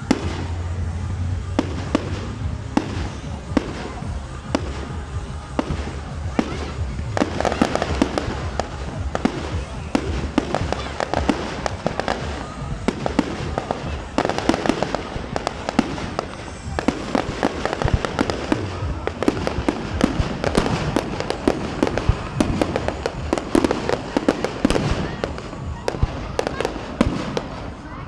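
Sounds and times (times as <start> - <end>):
background rumble: 0.0 - 28.0
fireworks bangs and crackles: 0.0 - 28.0.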